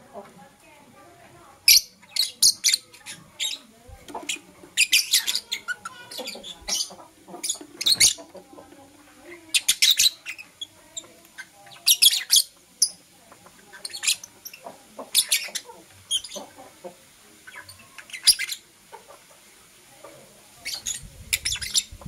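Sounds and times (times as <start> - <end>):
lovebirds chirping: 1.6 - 16.7, 17.4 - 18.7, 20.6 - 22.0.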